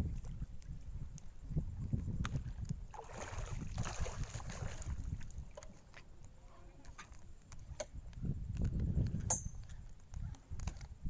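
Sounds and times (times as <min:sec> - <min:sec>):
wind buffeting microphone: 0:00.0 - 0:05.9, 0:07.0 - 0:11.0.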